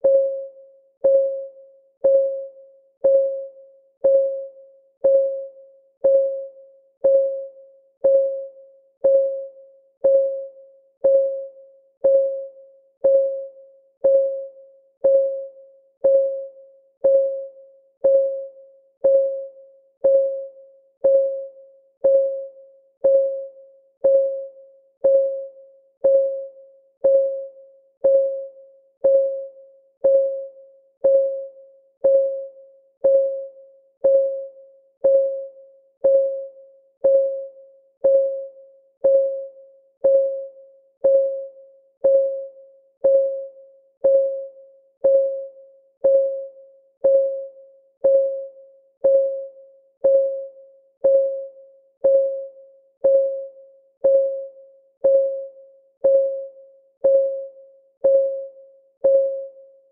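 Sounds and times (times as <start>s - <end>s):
clock ticking with ring: 0.0s - 59.9s.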